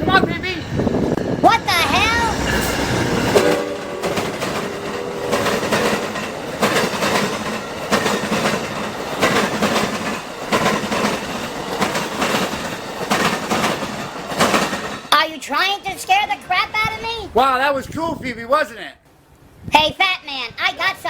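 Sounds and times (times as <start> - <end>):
wheels clacking over rail joints: 0.0 - 17.0
train rumbling past: 0.0 - 17.6.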